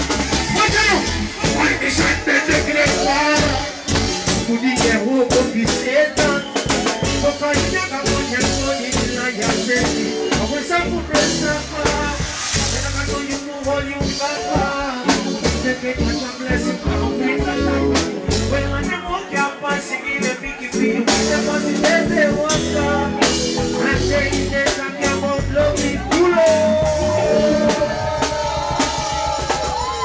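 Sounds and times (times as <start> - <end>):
live reggae band playing: 0.0 - 30.0
lead vocal singing: 0.6 - 29.0.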